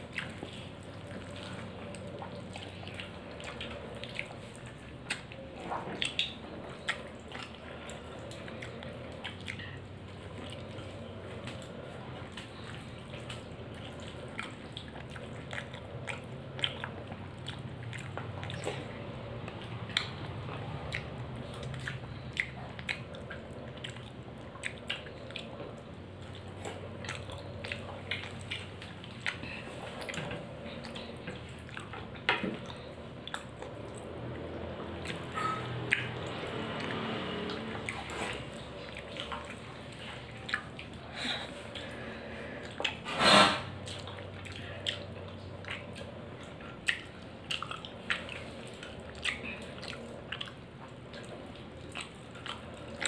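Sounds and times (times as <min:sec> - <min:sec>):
chewing with mouth clicks: 0:00.0 - 0:53.0.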